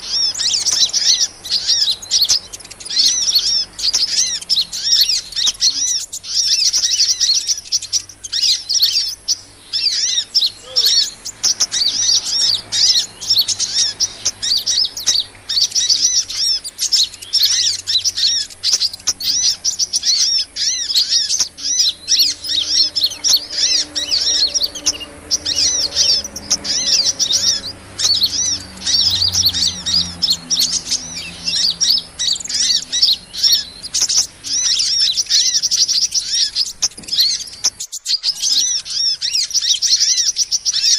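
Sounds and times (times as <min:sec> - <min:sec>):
small birds twittering: 0:00.0 - 0:40.9.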